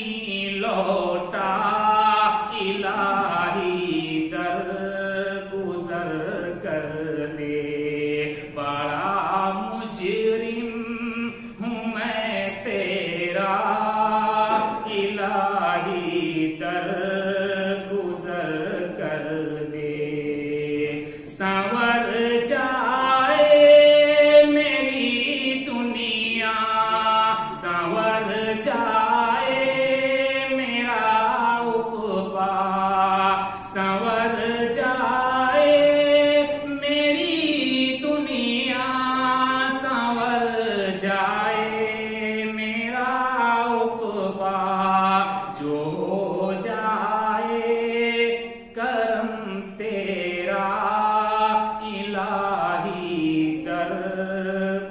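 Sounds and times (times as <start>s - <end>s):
man chanting unaccompanied: 0.0s - 54.9s.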